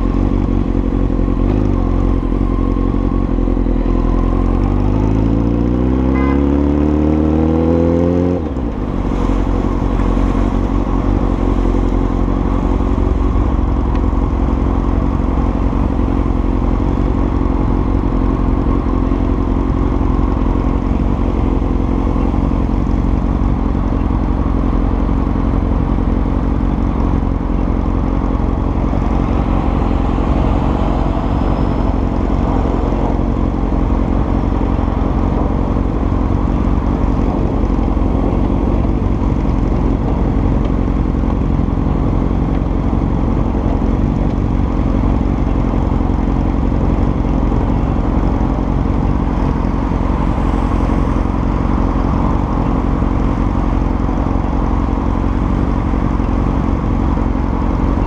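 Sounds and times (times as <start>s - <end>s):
motorcycle engine idling: 0.0s - 4.9s, 9.5s - 58.0s.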